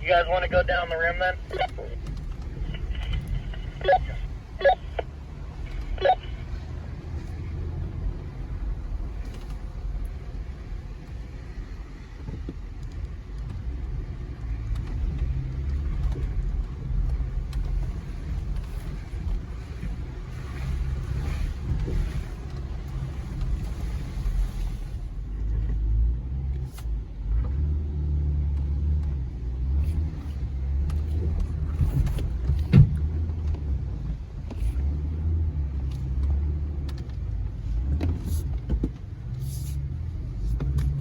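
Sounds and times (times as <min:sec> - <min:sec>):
truck engine at low revs: 0:00.0 - 0:41.0.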